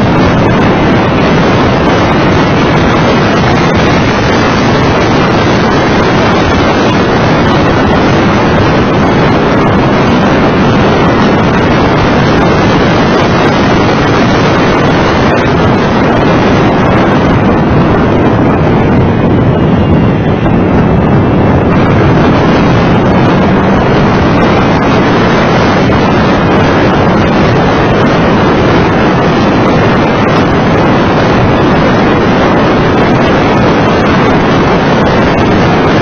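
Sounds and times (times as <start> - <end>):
car engine running: 0.0 - 36.0
wind rush on microphone: 0.0 - 36.0.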